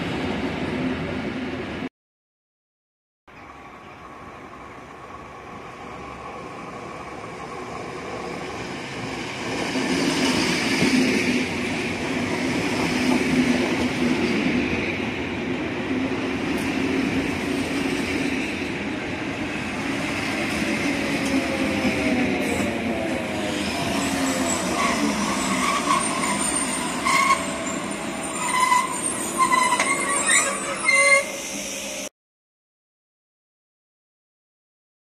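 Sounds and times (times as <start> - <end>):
electric train passing: 3.4 - 32.1.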